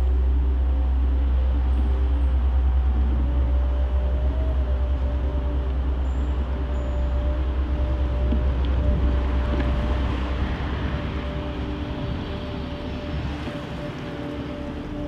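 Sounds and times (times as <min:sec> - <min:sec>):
deep constant hum: 0:00.0 - 0:15.0
faint steady tones: 0:00.0 - 0:15.0
low city rumble: 0:00.0 - 0:15.0.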